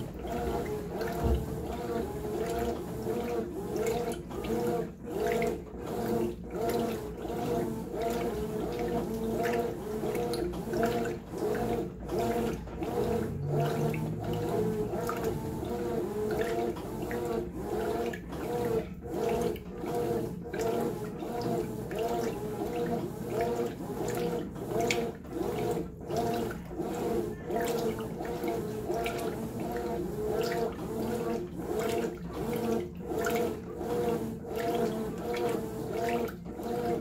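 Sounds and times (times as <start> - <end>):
washing machine water sloshing: 0.0 - 37.0.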